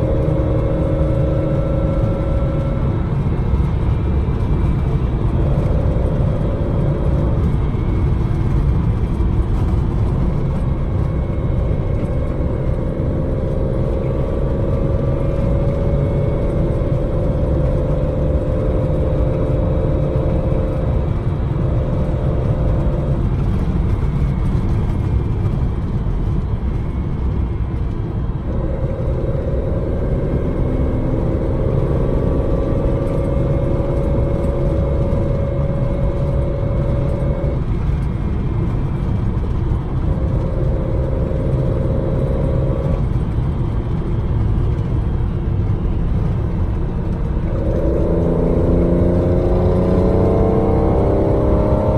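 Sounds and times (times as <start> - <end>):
car engine driving: 0.0 - 51.9
low road rumble: 0.0 - 51.9.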